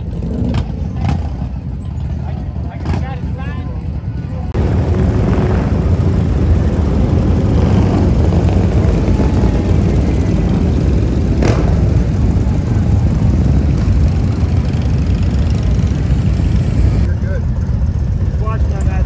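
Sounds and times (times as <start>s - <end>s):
motorcycle engines rumbling: 0.0s - 19.0s.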